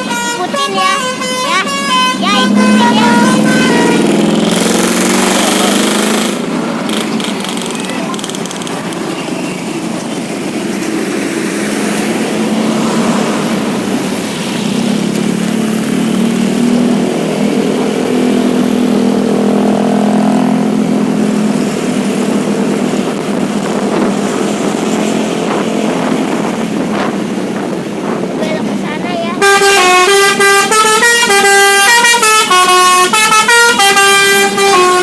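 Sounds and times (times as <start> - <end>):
heavy vehicle engine drone: 0.0 - 35.0
road traffic passing: 0.0 - 35.0.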